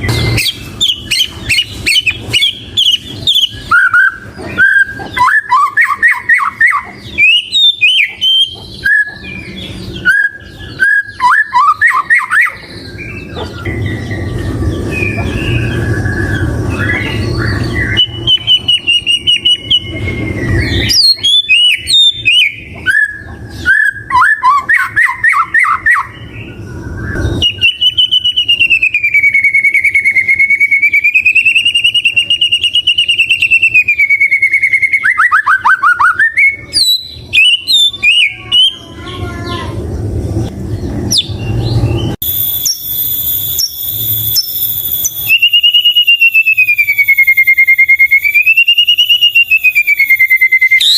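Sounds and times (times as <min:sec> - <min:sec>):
bird singing whistles and trills: 0:00.0 - 0:39.0, 0:40.4 - 0:50.9.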